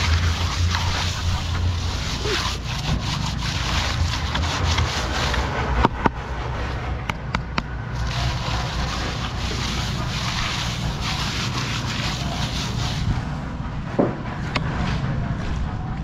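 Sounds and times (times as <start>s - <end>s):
float scraping concrete: 0.0s - 15.2s
steady low rumble: 0.0s - 16.0s.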